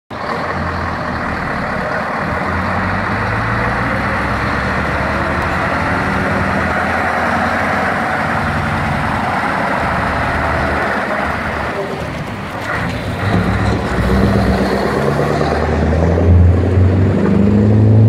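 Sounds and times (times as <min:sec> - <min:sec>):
diesel truck engine running: 0:00.1 - 0:18.0.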